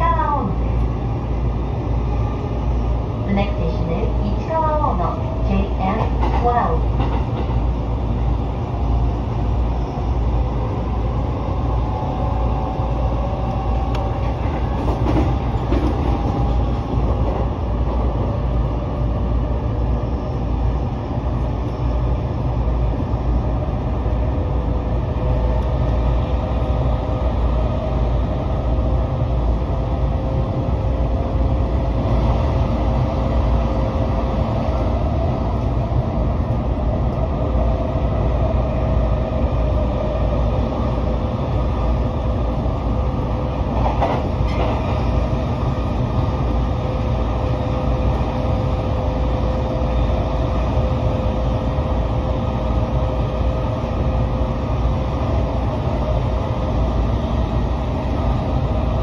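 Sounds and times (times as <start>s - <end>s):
train wheels rumbling: 0.0s - 59.0s.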